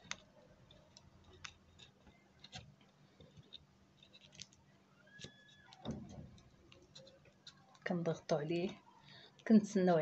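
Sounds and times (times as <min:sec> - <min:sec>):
faint clicks and scratches: 0:00.0 - 0:09.6.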